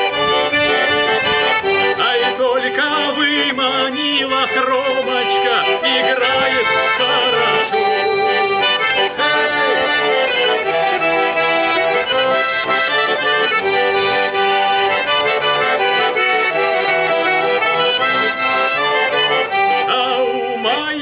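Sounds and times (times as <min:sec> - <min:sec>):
button accordion playing lively tune: 0:00.0 - 0:21.0.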